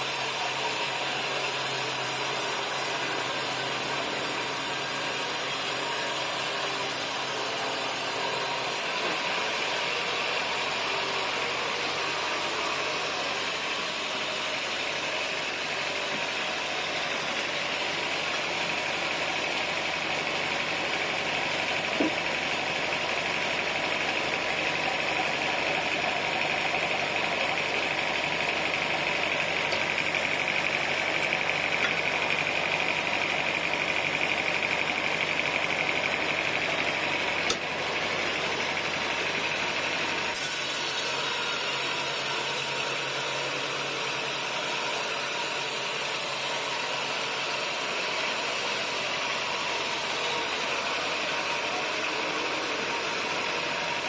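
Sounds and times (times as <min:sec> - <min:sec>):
engine running: 0:00.0 - 0:54.0
sawmill machinery running: 0:00.0 - 0:54.0.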